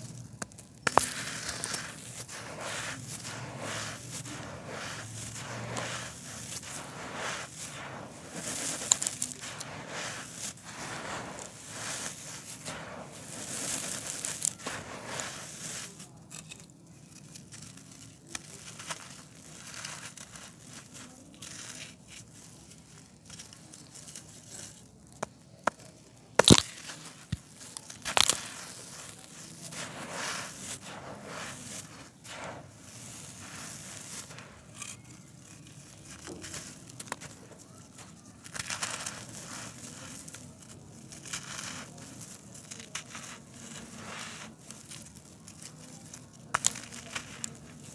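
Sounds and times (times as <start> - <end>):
concrete crunching and crackling: 0.0 - 47.9.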